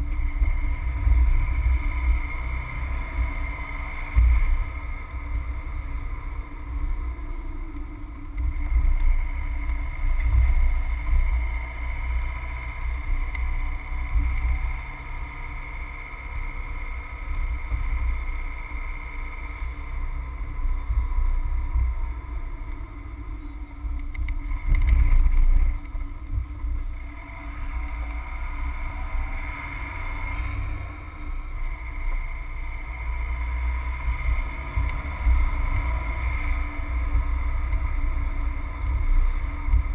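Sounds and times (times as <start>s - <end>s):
car engine and tyre rumble: 0.0s - 39.9s
constant hum: 0.0s - 39.9s.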